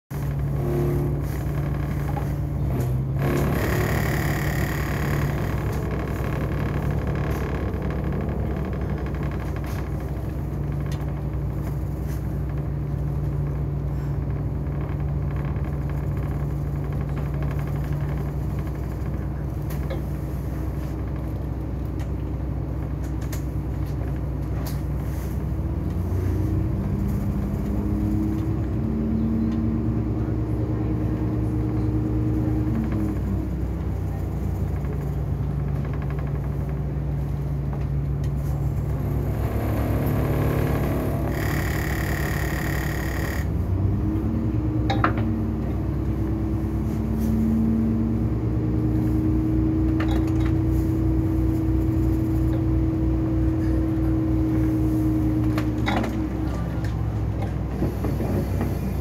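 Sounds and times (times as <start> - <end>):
bus diesel engine: 0.1 - 59.0
tyres on wet road: 0.1 - 59.0.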